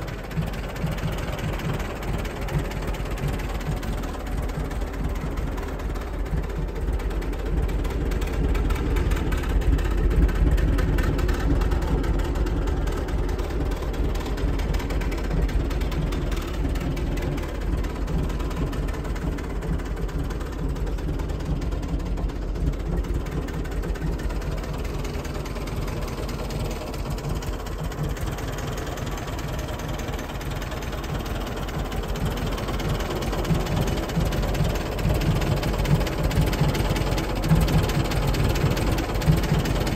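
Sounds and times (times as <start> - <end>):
petrol engine idling: 0.0 - 39.9.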